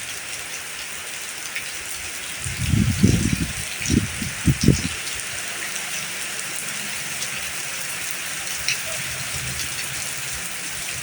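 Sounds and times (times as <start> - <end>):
rain pattering on ground: 0.0 - 11.0.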